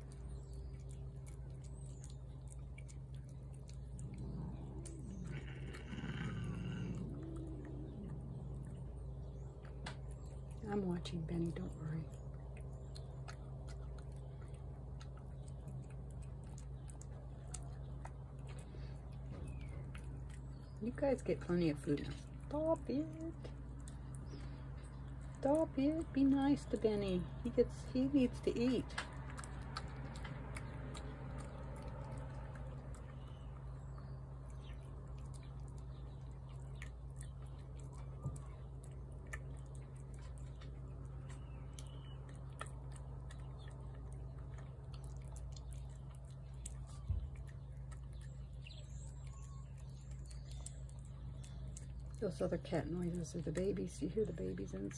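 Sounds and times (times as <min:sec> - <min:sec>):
cat crunching food: 0:00.0 - 0:54.9
steady low hum: 0:00.0 - 0:54.9.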